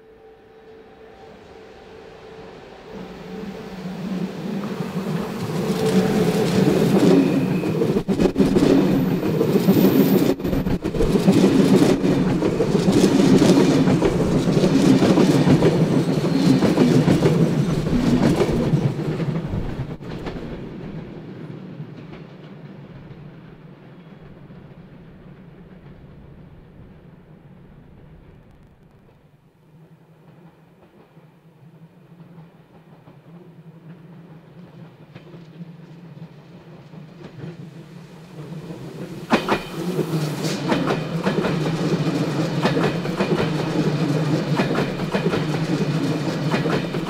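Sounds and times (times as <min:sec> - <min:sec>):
train wheels on rails: 0:00.2 - 0:47.0.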